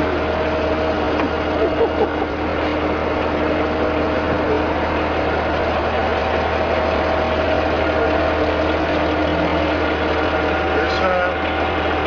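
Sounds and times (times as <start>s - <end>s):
low hum: 0.0s - 12.0s
vehicle engine idling: 0.0s - 12.0s.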